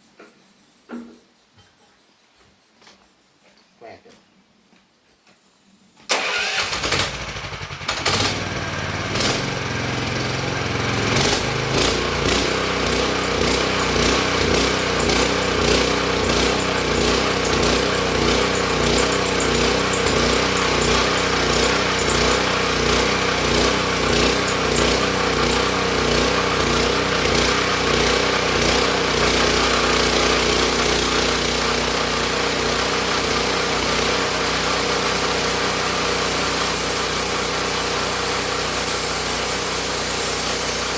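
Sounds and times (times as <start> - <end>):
sawmill engine starting and running: 6.1 - 40.9.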